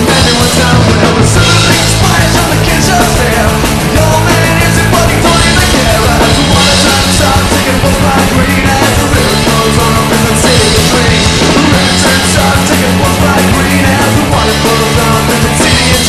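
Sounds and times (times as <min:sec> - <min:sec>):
punk rock band playing: 0:00.0 - 0:16.0.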